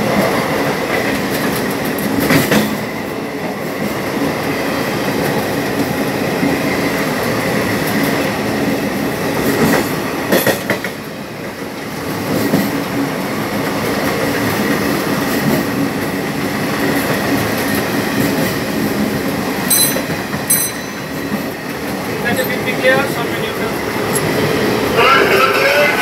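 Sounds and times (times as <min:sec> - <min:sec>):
clickety-clack over rail joints: 0:00.0 - 0:26.0.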